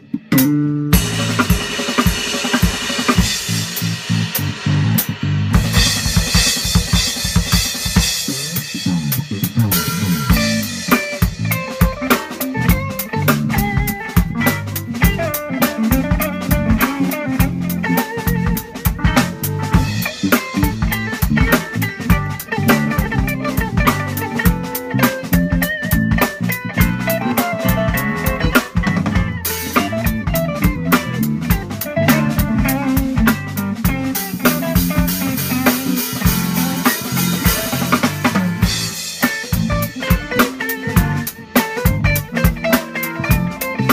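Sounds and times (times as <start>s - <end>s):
digital piano: 0.0s - 43.9s
drum kit beat: 0.0s - 43.9s
electric guitar melody: 0.0s - 43.9s.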